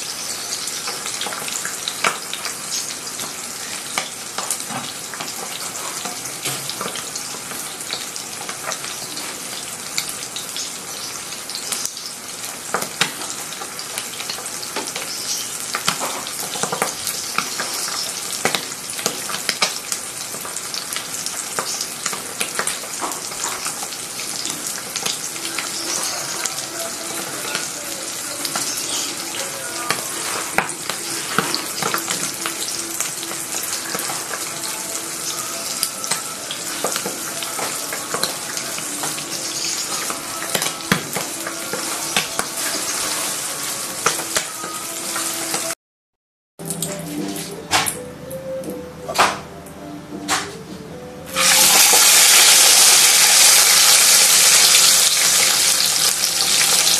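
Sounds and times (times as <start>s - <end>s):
fish frying in hot oil: 0.0s - 45.8s, 51.4s - 56.9s.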